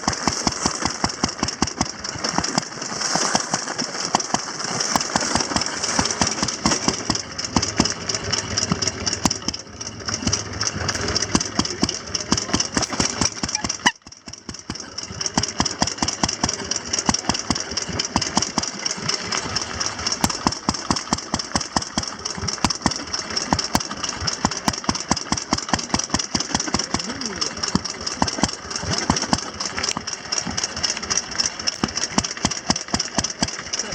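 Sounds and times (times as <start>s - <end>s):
motorcycle engines running: 0.0s - 33.9s.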